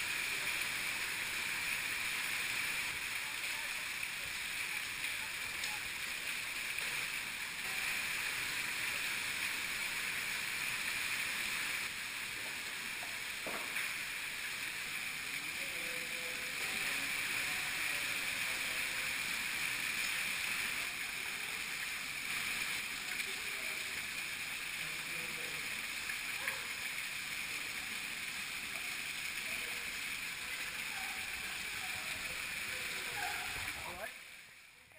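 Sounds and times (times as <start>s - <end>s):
water rushing and splashing: 0.0s - 34.9s.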